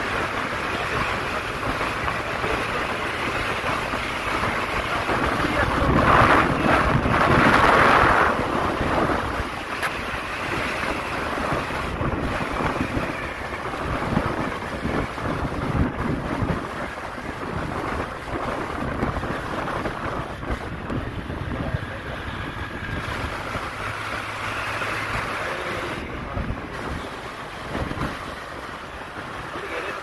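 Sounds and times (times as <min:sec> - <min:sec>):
road noise rumble: 0:00.0 - 0:30.0
wind rushing over microphone: 0:00.0 - 0:30.0.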